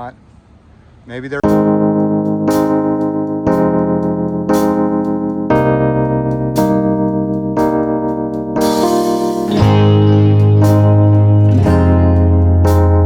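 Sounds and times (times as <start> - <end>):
piano chords: 1.4 - 13.0.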